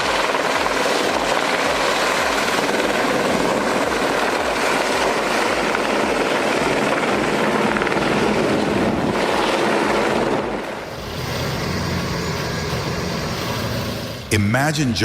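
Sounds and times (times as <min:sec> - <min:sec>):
steady engine: 0:00.0 - 0:14.3
helicopter rotor beating: 0:00.0 - 0:14.4.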